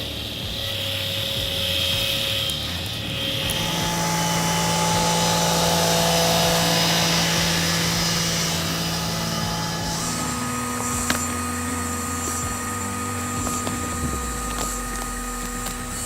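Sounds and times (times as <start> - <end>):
engine running: 0.0 - 16.0
steady drone: 0.0 - 16.0.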